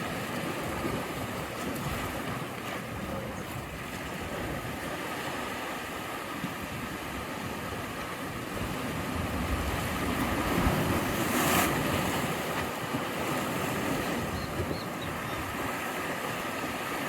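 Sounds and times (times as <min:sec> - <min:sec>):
sea waves crashing: 0:00.0 - 0:17.0
wind on microphone: 0:00.0 - 0:17.0.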